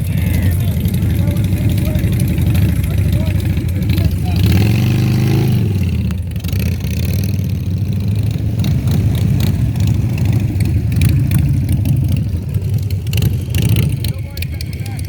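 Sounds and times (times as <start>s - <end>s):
motorcycle engine pulsing loudly: 0.0s - 15.0s.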